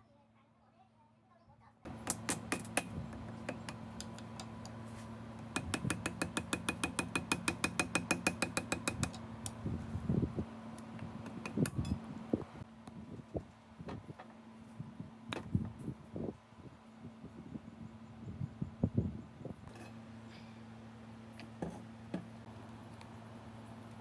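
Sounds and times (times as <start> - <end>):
steady hum: 1.9 - 24.0.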